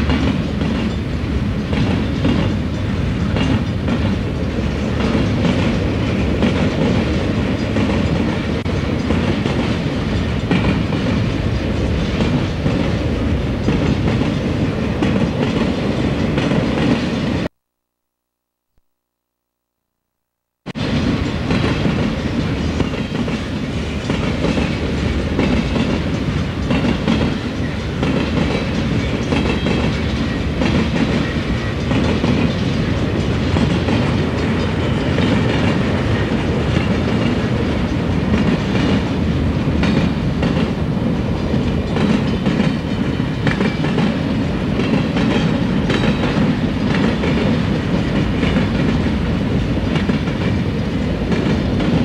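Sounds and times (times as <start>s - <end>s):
freight train cars rolling past: 0.0s - 17.5s, 20.8s - 52.0s.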